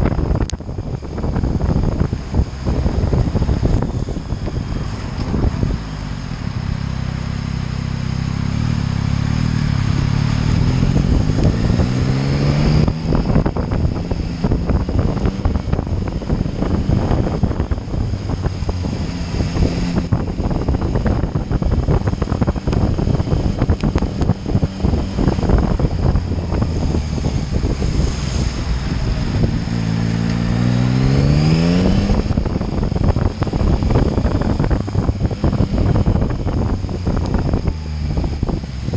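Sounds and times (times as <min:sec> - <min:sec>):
motorcycle engine accelerating: 0:00.0 - 0:38.9
wind buffeting microphone: 0:00.0 - 0:38.9.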